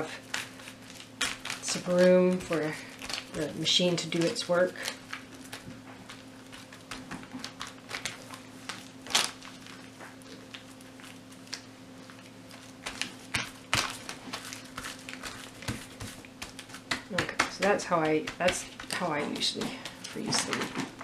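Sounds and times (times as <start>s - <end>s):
plastic bag crinkling: 0.0s - 16.9s
faint steady hum: 0.0s - 21.0s.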